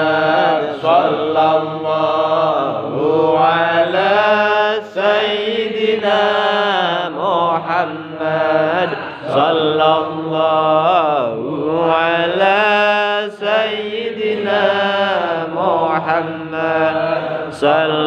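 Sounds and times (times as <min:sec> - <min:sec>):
men chanting: 0:00.0 - 0:18.0.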